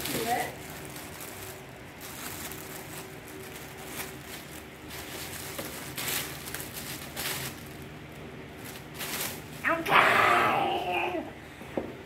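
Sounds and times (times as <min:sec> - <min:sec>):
gift wrapping rustling and tearing: 0:00.0 - 0:09.8.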